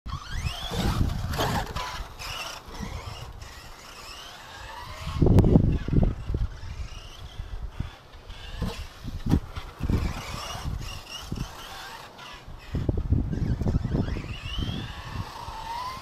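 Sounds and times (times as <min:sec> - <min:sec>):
rc truck motor whining: 0:00.1 - 0:16.0.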